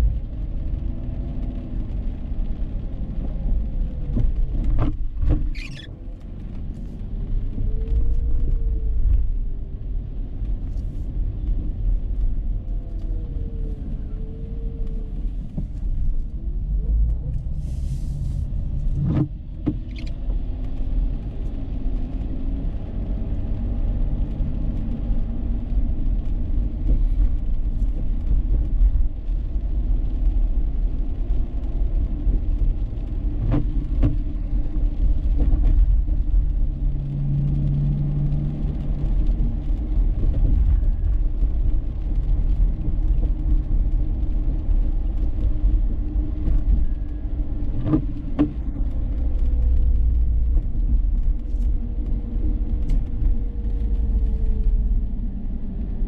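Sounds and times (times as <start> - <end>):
car engine and tyre road rumble: 0.0 - 56.0.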